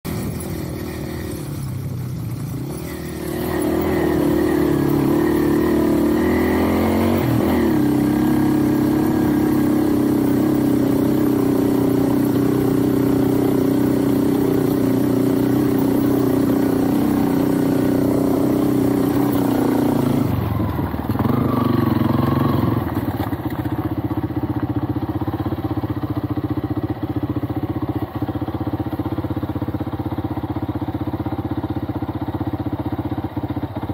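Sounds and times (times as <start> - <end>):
small motorcycle engine running: 0.0 - 33.9.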